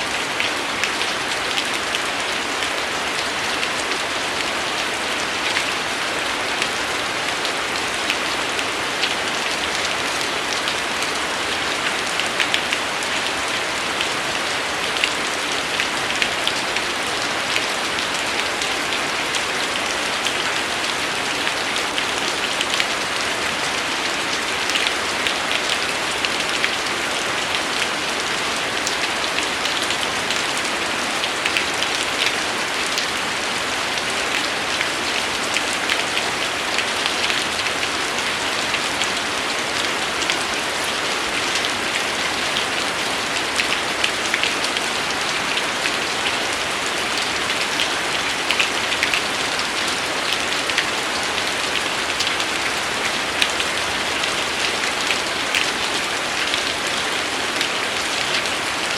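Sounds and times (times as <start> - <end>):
raindrops pattering on a surface: 0.0 - 58.6
steady rain falling: 0.0 - 58.9.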